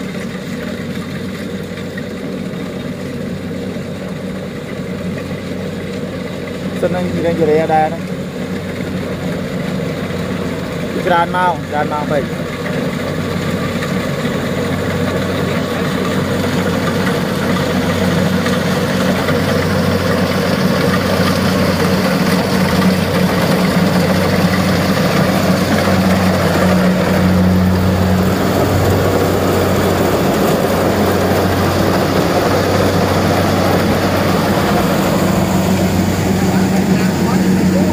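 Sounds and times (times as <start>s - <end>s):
combine harvester diesel engine: 0.0s - 37.9s.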